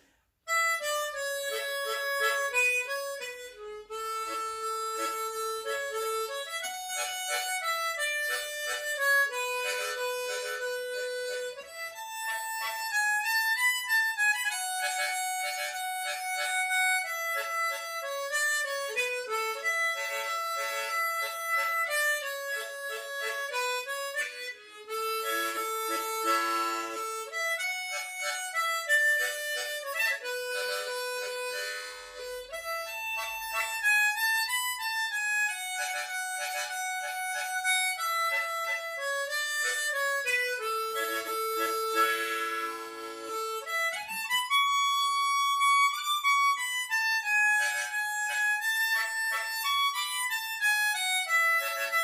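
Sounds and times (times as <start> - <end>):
harmonica playing slow melody: 0.0 - 52.0.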